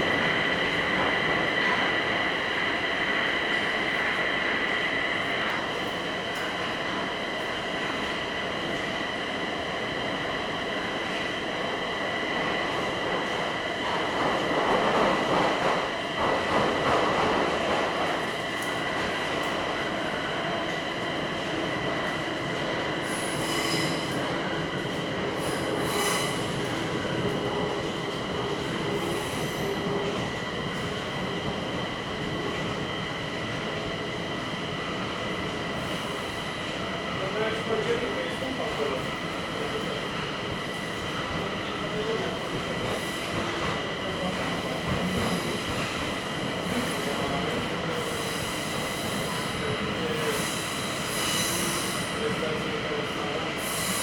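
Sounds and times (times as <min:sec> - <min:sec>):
train rumbling in tunnel: 0:00.0 - 0:54.0.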